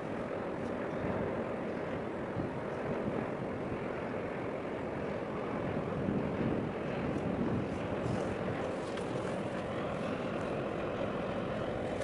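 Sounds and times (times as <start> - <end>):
harbour water rushing: 0.0 - 12.0.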